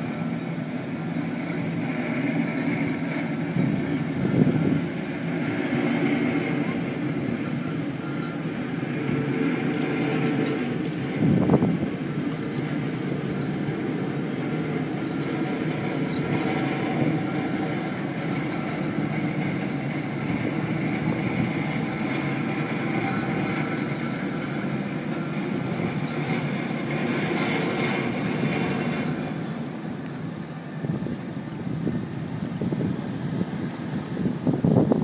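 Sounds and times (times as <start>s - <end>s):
diesel engine low drone: 0.0s - 35.0s.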